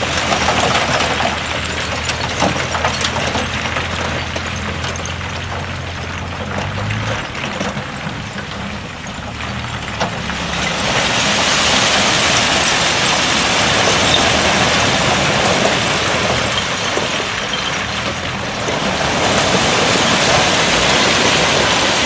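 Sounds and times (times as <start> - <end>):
heavy diesel engine running: 0.0 - 22.0
soil and stone rushing: 0.0 - 22.0.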